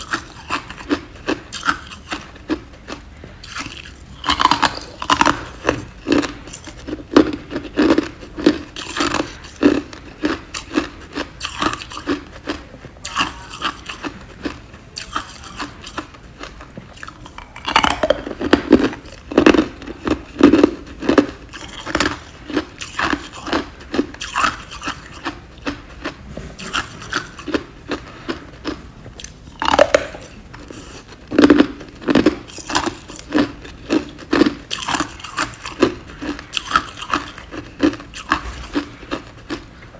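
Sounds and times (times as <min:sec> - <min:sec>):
person crunching ice: 0:00.0 - 0:39.6.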